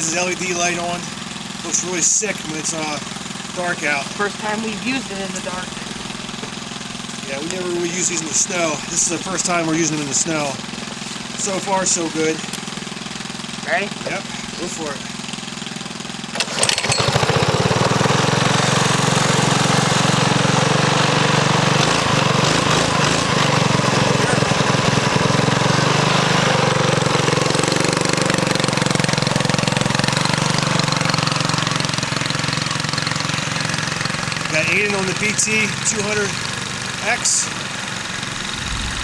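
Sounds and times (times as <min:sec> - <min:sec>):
minibike engine revving: 0:00.0 - 0:39.0.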